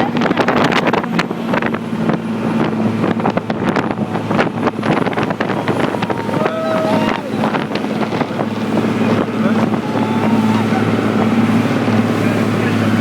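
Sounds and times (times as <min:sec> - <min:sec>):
motorboat engine running: 0:00.0 - 0:13.0
water splashing: 0:00.0 - 0:13.0
wind buffeting microphone: 0:00.0 - 0:13.0.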